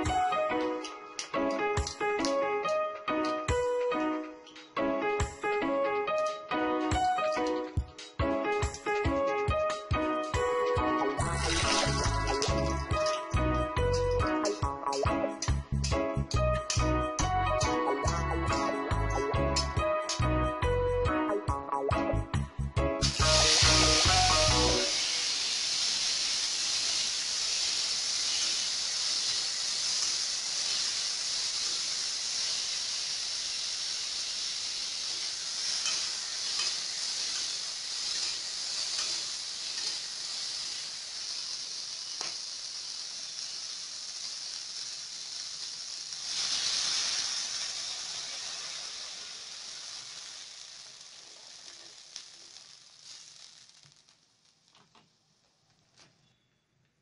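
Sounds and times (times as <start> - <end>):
simmering water sizzling hiss: 0.0 - 20.4, 23.0 - 55.1.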